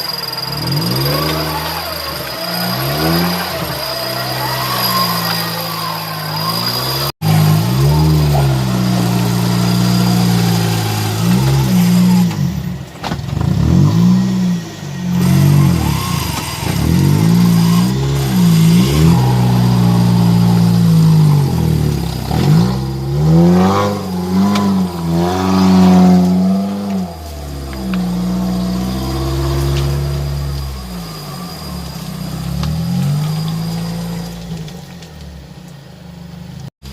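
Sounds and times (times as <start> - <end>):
engine revving hard: 0.0 - 34.7.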